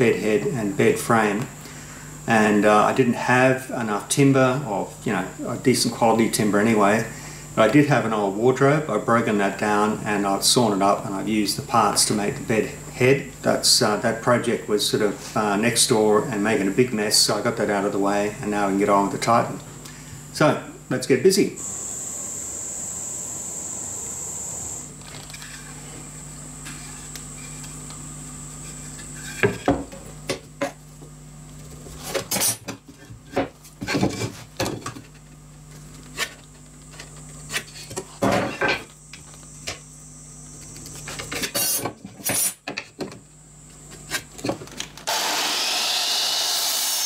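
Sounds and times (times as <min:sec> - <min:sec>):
steady low hum: 0:00.0 - 0:45.1.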